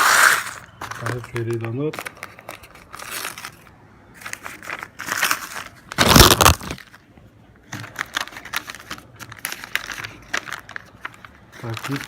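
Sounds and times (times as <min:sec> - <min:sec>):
packaging crinkling and tearing: 0:00.0 - 0:07.0, 0:07.8 - 0:12.0.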